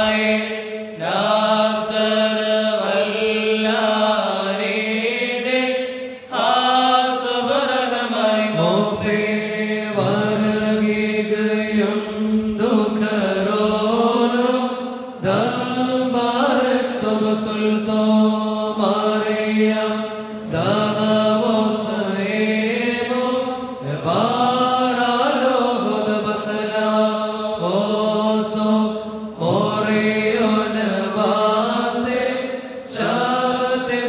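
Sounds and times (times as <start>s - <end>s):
voices chanting prayer: 0.0s - 34.0s.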